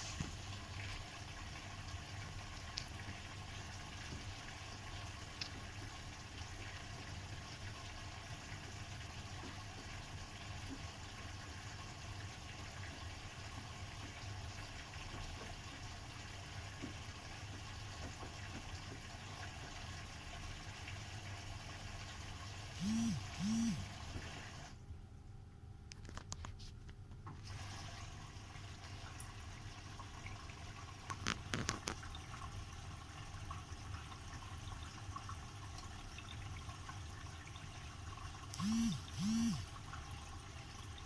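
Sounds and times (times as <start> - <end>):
water running into washing machine: 0.0 - 22.8, 23.8 - 24.8, 27.3 - 41.0.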